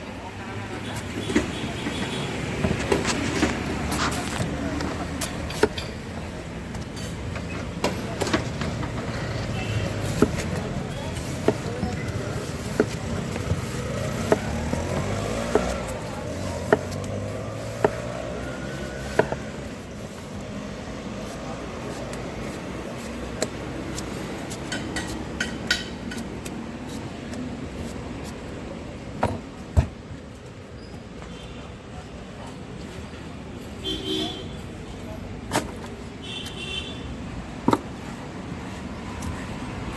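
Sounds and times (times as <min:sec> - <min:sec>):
street traffic: 0:00.0 - 0:39.9.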